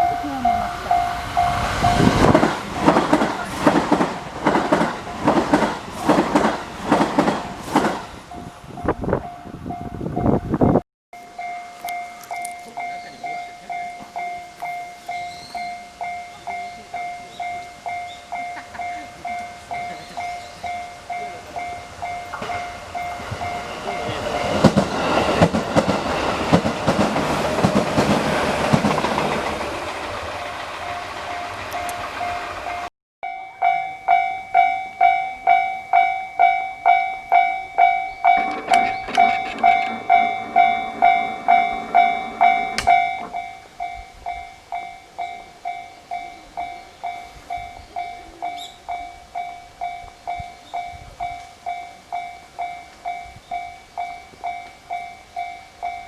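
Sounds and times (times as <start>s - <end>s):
level crossing warning bell dinging: 0.0s - 6.6s, 11.2s - 56.0s
train passing: 0.0s - 56.0s.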